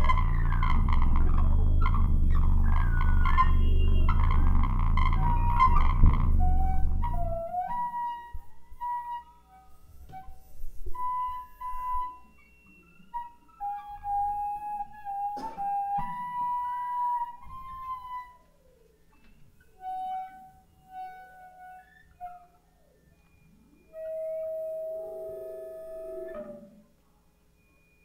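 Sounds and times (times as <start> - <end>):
whistle-like feedback tones: 0.0 - 28.0.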